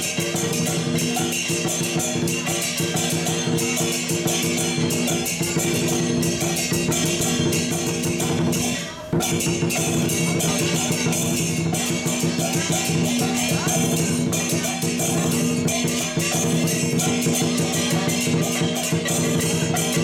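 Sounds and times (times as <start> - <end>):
cymbal strikes: 0.0 - 20.0
fast drumming: 0.0 - 20.0
steady ringing tones: 0.0 - 20.0.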